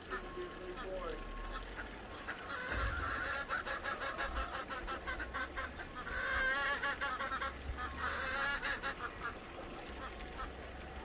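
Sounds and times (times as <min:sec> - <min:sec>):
ducks quacking: 0:00.0 - 0:10.7.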